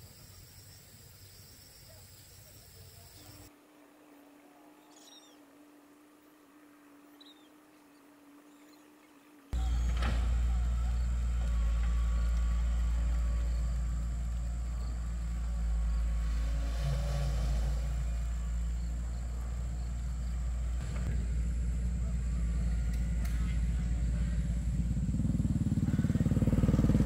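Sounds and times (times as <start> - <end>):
engine humming steadily: 0.0 - 7.8, 9.4 - 27.0.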